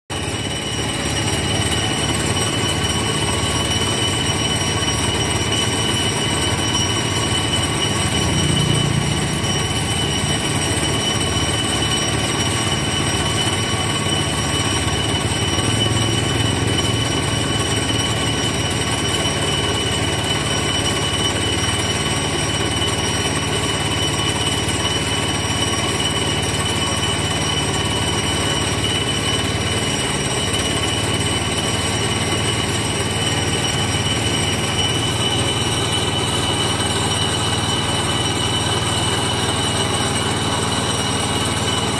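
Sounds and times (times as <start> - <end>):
machinery running: 0.1 - 41.9.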